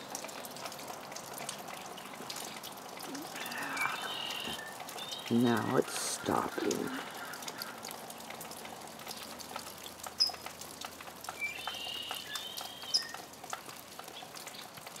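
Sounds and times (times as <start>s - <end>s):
hail pellets ticking on ground: 0.0s - 15.0s.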